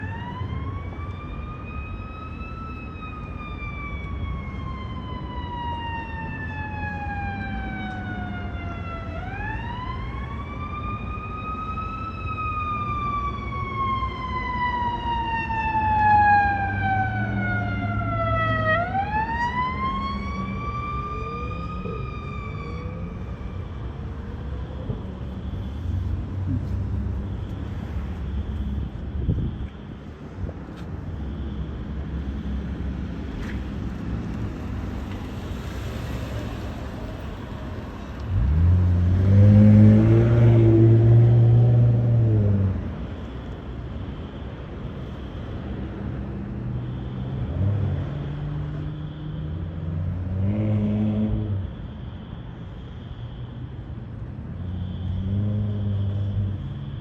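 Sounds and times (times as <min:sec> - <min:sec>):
fire truck siren wailing: 0:00.0 - 0:57.0
traffic: 0:00.0 - 0:57.0.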